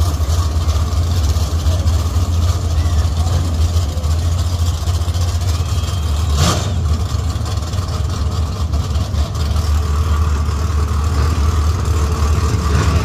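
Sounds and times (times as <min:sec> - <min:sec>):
race car engines idling: 0:00.0 - 0:13.0.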